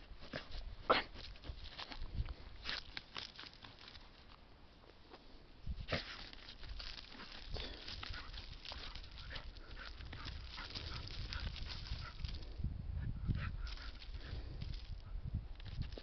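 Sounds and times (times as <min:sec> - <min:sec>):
dog scratching in dirt: 0:00.0 - 0:04.4, 0:05.7 - 0:12.6, 0:13.3 - 0:16.0.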